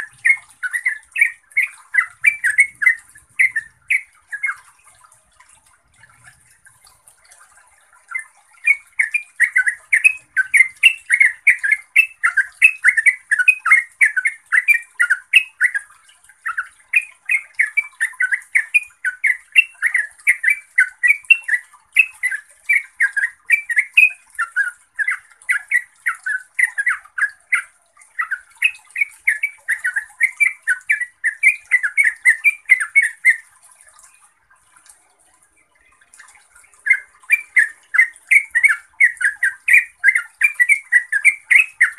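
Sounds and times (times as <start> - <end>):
bird chattering song: 0.0 - 4.8, 8.0 - 33.5, 36.7 - 41.9.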